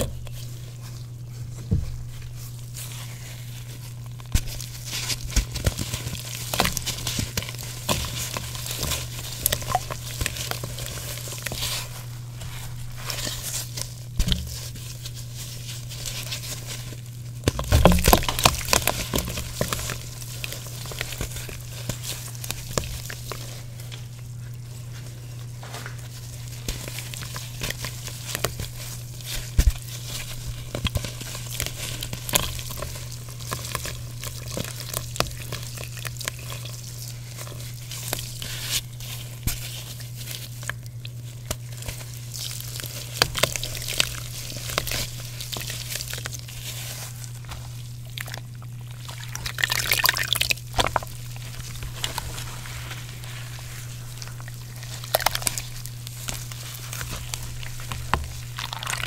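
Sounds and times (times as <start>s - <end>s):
wet chalk crunching by hand: 0.0s - 59.0s.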